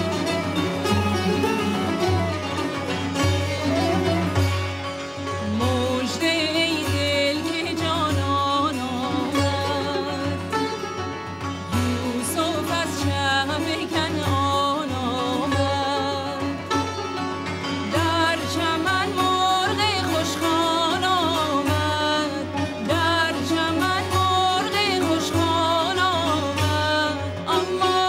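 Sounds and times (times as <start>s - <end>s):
ornamented melody with vibrato: 0.0s - 28.0s.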